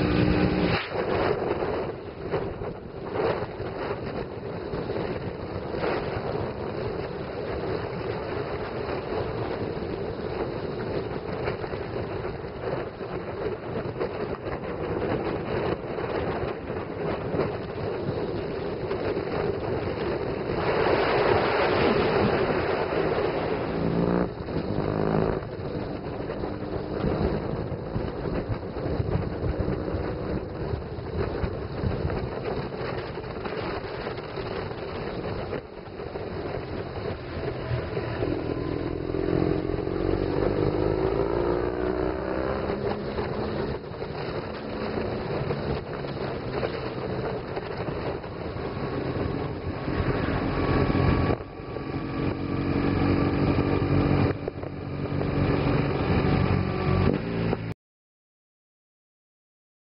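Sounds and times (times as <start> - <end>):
wind rushing over microphone: 0.0 - 57.7
motorcycle engine accelerating: 0.0 - 57.8.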